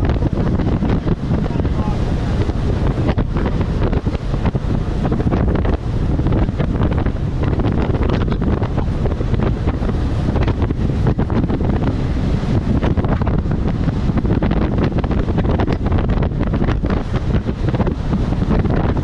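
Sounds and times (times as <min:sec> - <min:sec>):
waves slapping boat hull: 0:00.0 - 0:19.0
wind buffeting microphone: 0:00.0 - 0:19.0.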